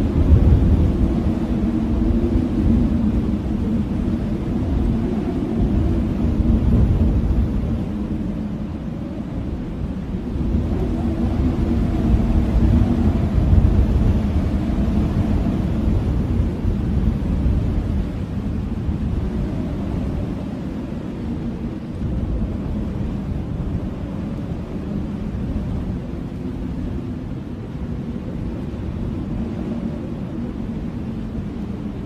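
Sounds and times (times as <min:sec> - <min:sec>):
strong blizzard wind: 0:00.0 - 0:32.0.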